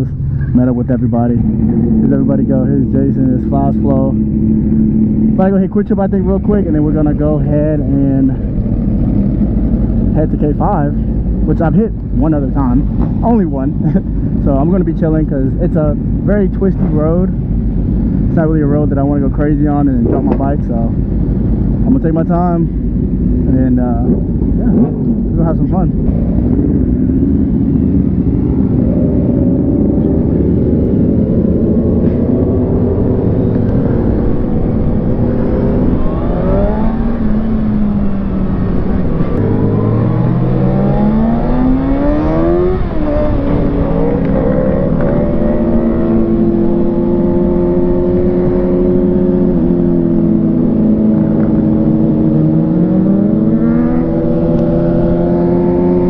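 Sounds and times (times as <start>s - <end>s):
motorcycle engine accelerating: 0.0s - 15.0s, 15.6s - 56.0s
heavy wind rumble: 0.0s - 56.0s.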